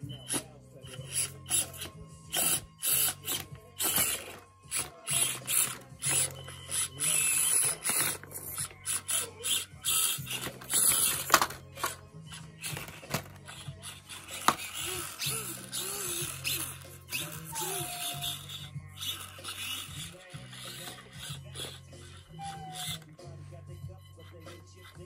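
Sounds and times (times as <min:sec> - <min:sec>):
electric motor and gears whirring: 0:00.0 - 0:25.0.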